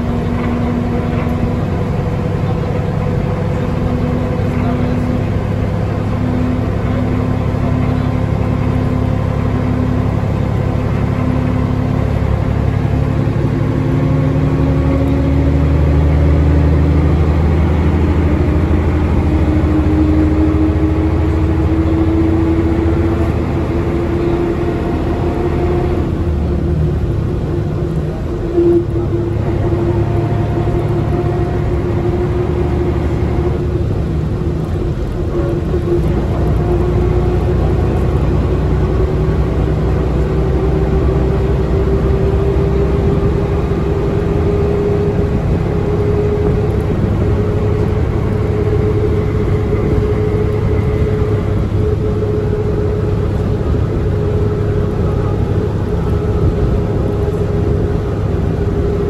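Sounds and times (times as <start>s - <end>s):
diesel engine drone: 0.0s - 59.0s
rising whine: 0.0s - 59.0s.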